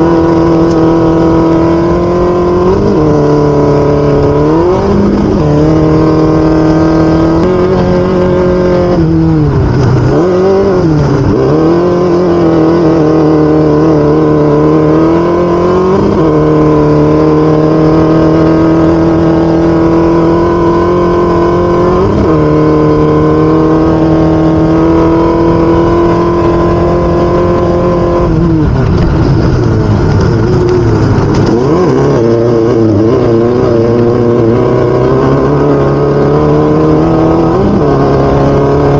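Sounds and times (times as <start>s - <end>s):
race vehicle engine running hard: 0.0s - 38.9s.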